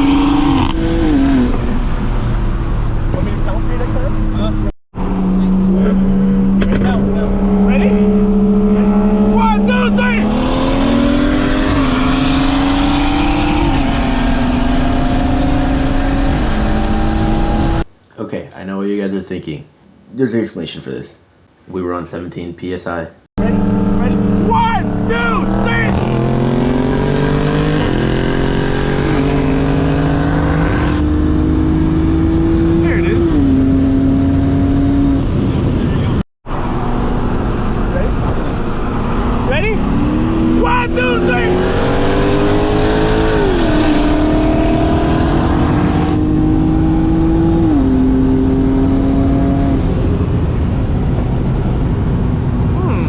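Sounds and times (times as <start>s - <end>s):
car engine accelerating hard: 0.0s - 17.9s, 23.4s - 52.8s.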